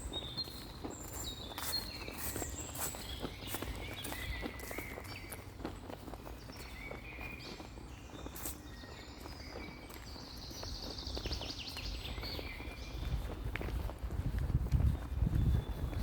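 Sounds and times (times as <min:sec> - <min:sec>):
birds chirping: 0:00.0 - 0:13.9, 0:14.9 - 0:16.0
footsteps crunching on forest floor: 0:00.0 - 0:16.0.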